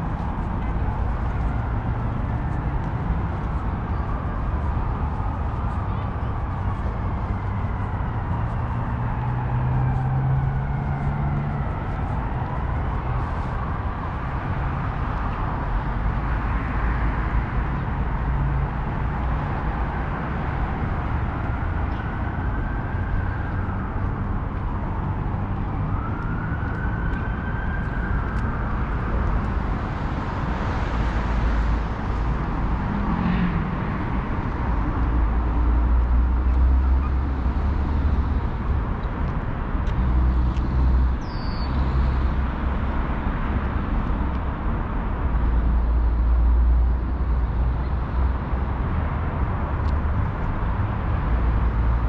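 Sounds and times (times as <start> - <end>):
gliding whines of vehicles: 0.0 - 52.0
low rumble of passing vehicles: 0.0 - 52.0.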